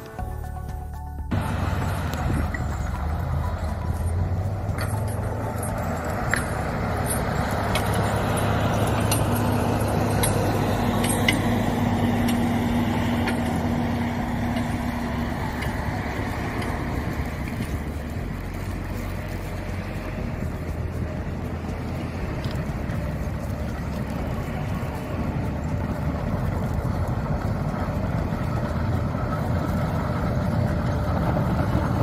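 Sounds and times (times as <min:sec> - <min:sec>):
road or wind noise: 0:00.0 - 0:32.0
vehicle engine hum: 0:00.0 - 0:32.0.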